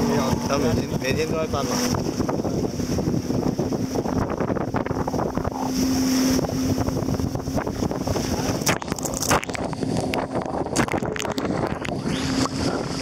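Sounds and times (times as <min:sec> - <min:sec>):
speedboat engine humming: 0:00.0 - 0:13.0
wind buffeting microphone: 0:00.0 - 0:13.0.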